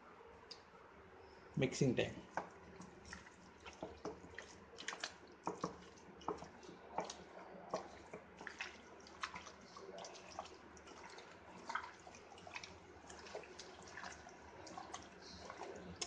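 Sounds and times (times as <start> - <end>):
hand squelching marinade: 2.2 - 16.0.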